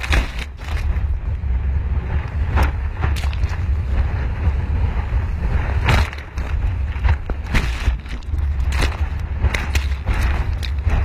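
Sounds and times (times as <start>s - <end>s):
turbulent water rumbling: 0.0s - 11.0s.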